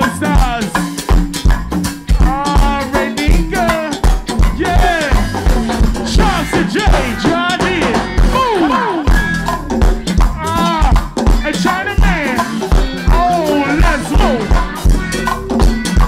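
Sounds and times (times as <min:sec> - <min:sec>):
live band playing upbeat music: 0:00.0 - 0:16.0
gliding melodic lead line: 0:01.3 - 0:16.0.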